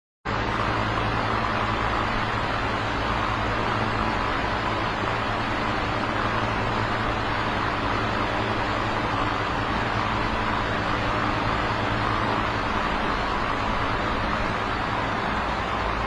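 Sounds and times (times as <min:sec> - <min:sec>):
electric fan running: 0:00.3 - 0:16.0.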